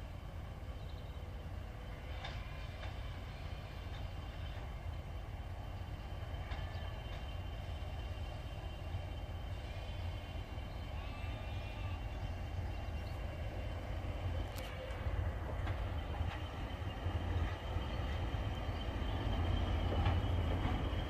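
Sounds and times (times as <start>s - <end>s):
diesel locomotive rumbling: 0.0s - 21.0s.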